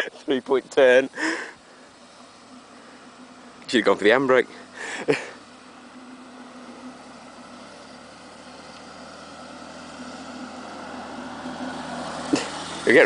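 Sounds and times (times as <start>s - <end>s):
toy car motor humming: 0.0s - 13.0s.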